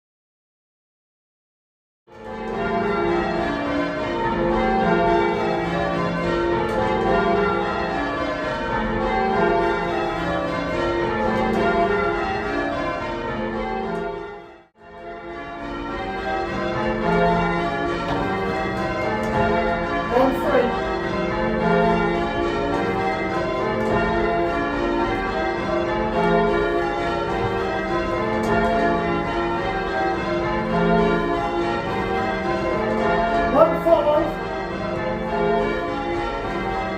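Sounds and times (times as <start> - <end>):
church bells change ringing: 2.1 - 36.9.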